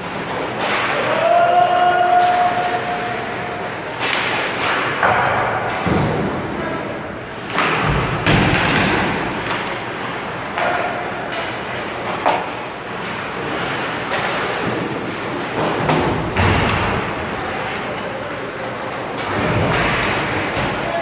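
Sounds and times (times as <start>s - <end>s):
hockey sticks and puck knocking: 0.0s - 2.8s, 3.8s - 6.5s, 7.4s - 21.0s.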